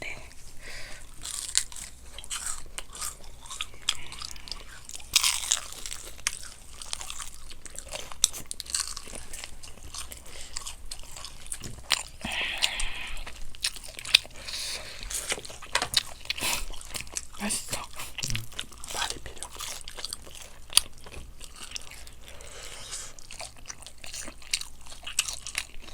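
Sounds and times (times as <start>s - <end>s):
crunching bites and chewing: 1.0s - 25.9s.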